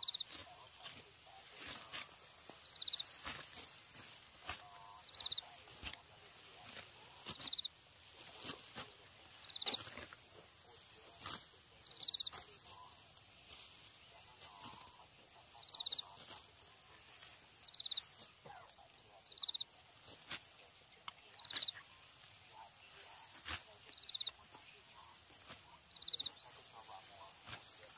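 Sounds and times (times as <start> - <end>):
sickles cutting rice stalks: 0.0 - 27.9.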